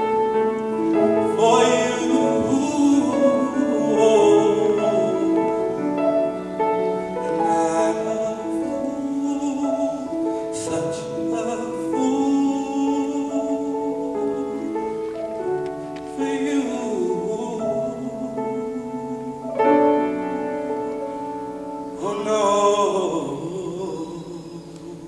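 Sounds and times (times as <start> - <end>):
grand piano: 0.0 - 25.0
man singing: 0.8 - 20.8, 21.9 - 25.0.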